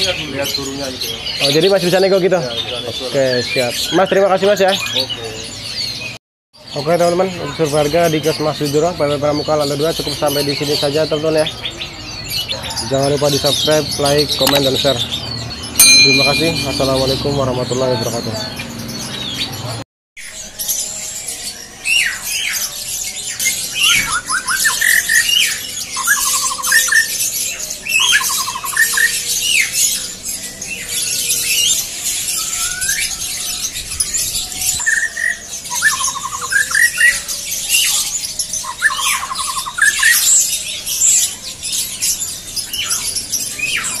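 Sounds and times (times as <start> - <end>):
chorus of birds chirping: 0.0 - 44.0
songbird singing a trill: 0.0 - 44.0.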